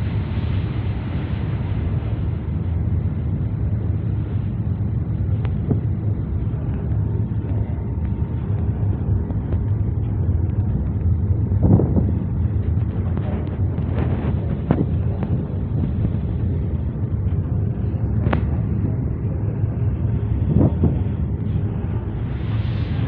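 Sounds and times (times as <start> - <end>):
boat engine rumble: 0.0 - 23.0
wind buffeting microphone: 0.0 - 23.0.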